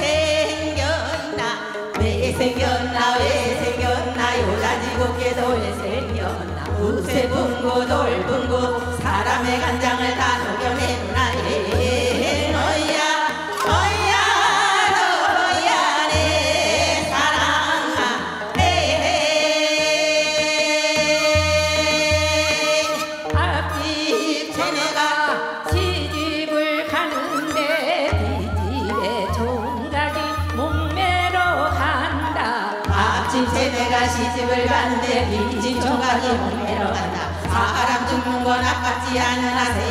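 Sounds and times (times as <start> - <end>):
woman singing folk song: 0.0 - 39.9.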